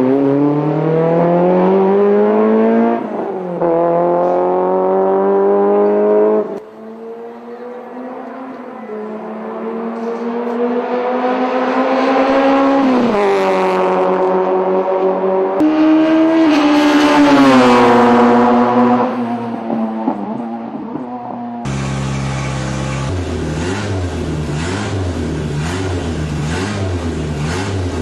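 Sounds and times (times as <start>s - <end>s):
racing car engine accelerating: 0.0s - 28.0s.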